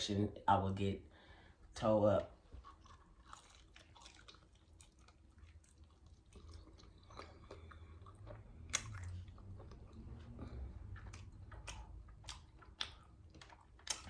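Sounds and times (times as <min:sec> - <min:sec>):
chewing fried chicken: 0:02.4 - 0:14.0
wet mouth sounds: 0:02.6 - 0:14.0.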